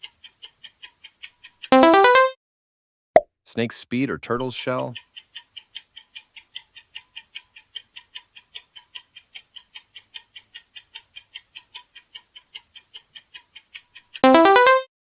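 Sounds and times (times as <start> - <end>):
clock-like ticking: 0.0 - 2.2, 4.4 - 14.8.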